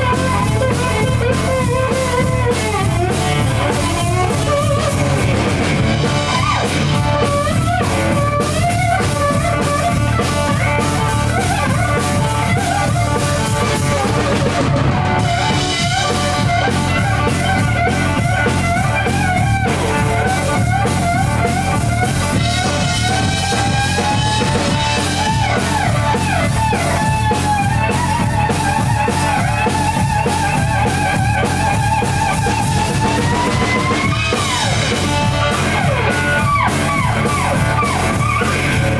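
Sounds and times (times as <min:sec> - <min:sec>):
drum kit beat: 0:00.0 - 0:38.9
electric slide guitar solo: 0:00.0 - 0:38.9.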